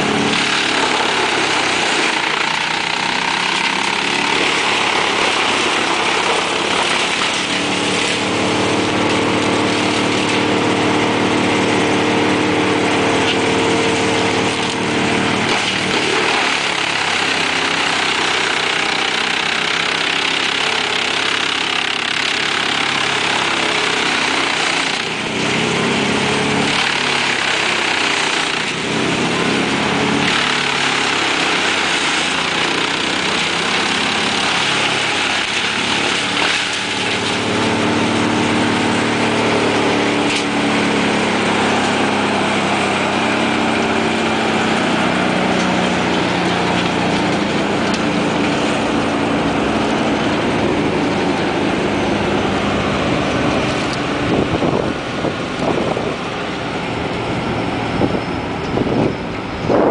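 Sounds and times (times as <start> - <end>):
wood chipper engine and chipping: 0.0 - 59.9.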